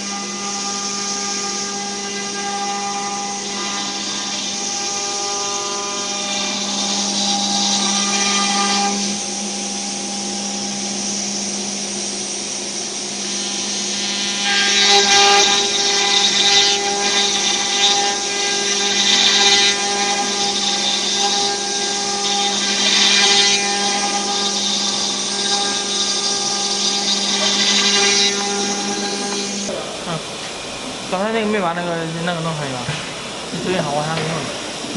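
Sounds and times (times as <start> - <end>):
router bit cutting wood: 0.0 - 34.9
wood router spindle whine: 0.0 - 34.9.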